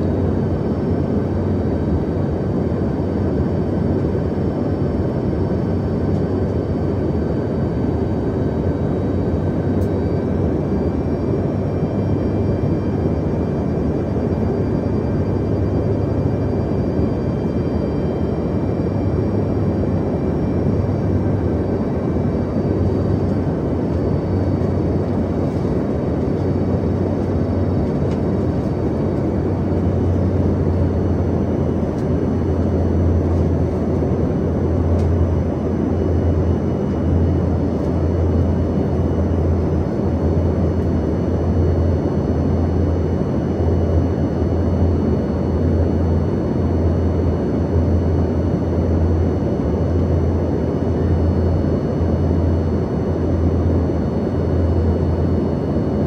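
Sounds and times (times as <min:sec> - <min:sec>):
faint high whining tones: 0:00.0 - 0:56.0
jet cabin rumble: 0:00.0 - 0:56.0.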